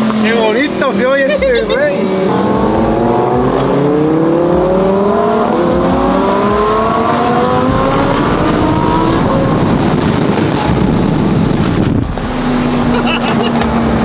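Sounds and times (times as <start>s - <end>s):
engine and road noise: 0.0s - 14.0s
sports car engine accelerating: 0.0s - 14.0s.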